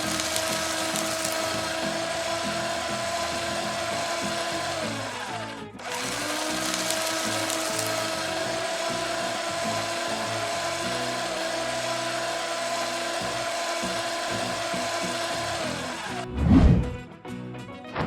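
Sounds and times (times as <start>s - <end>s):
power tool whining: 0.0s - 16.6s.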